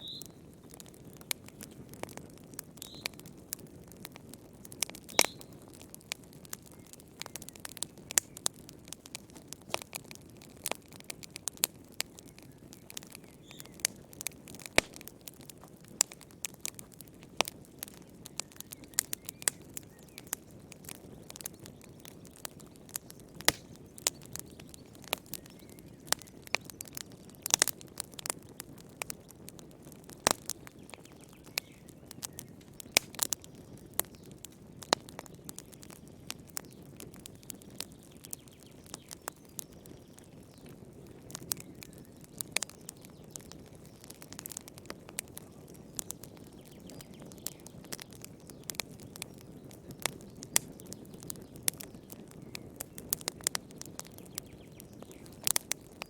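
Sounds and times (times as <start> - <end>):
burning wood crackling and popping: 0.0 - 56.0.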